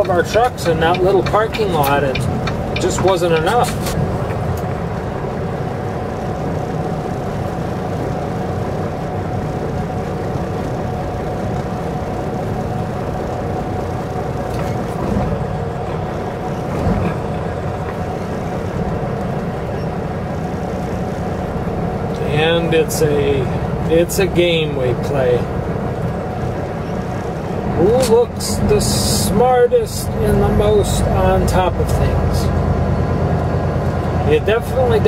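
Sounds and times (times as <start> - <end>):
road noise: 0.0 - 35.0
truck diesel engine drone: 0.0 - 35.0.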